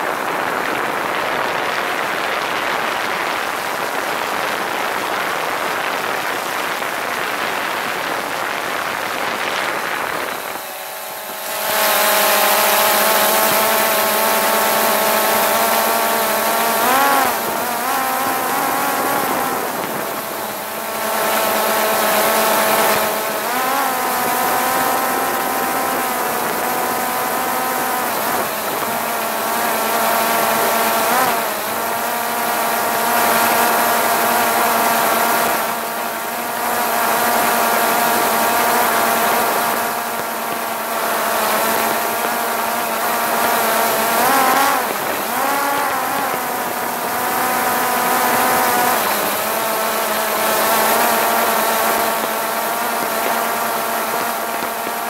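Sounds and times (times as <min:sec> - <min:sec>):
drone motors whining: 0:08.8 - 0:55.0.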